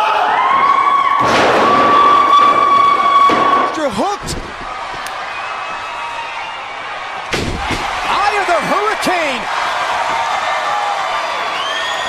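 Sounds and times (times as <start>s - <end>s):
crowd cheering: 0.0s - 12.0s.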